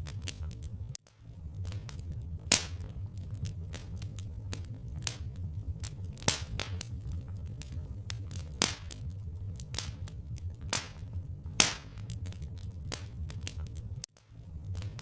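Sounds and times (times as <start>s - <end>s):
loud fire pops: 0.0s - 15.0s
low steady rumble: 0.0s - 15.0s
wood fire crackling: 0.0s - 15.0s.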